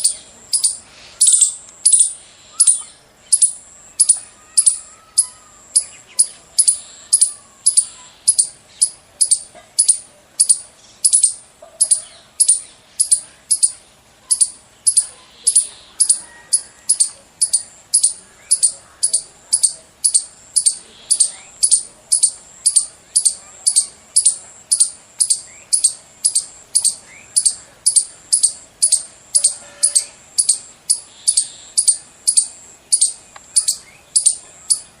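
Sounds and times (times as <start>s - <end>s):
squirrel alarm chirps: 0.0s - 35.0s.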